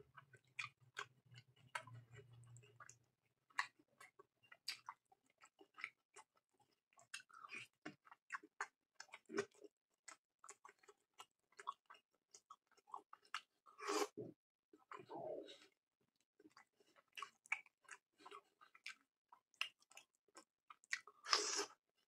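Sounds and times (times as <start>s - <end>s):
person chewing food: 0.1s - 14.2s, 14.8s - 21.8s.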